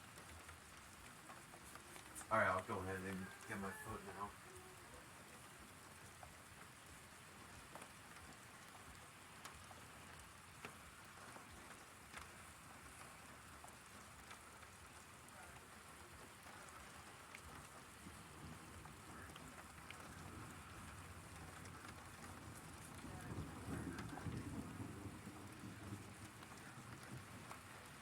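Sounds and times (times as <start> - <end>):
faint steady rain: 0.0 - 28.0
sharp taps of raindrops: 0.0 - 28.0.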